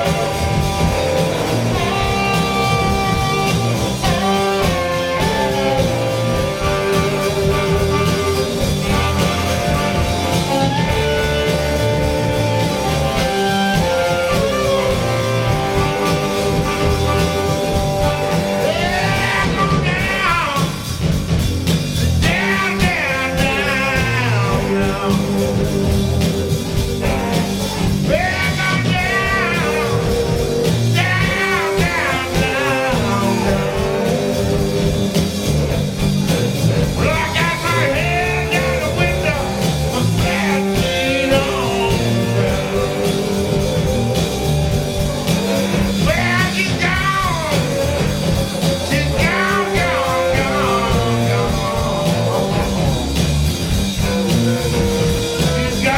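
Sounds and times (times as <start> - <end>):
person singing: 0.0 - 20.8, 22.2 - 26.0, 27.0 - 35.1, 36.8 - 53.2, 55.2 - 55.9
bass guitar: 0.0 - 55.9
drums: 0.0 - 55.9
electric guitar: 0.0 - 55.9.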